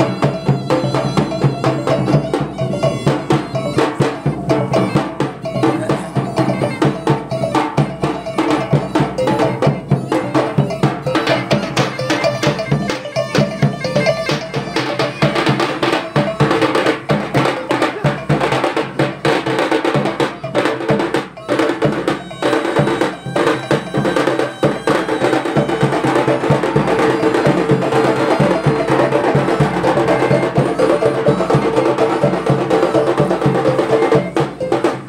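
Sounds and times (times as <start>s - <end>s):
double-headed drum strokes: 0.0s - 35.0s
reed pipe melody: 0.0s - 35.0s.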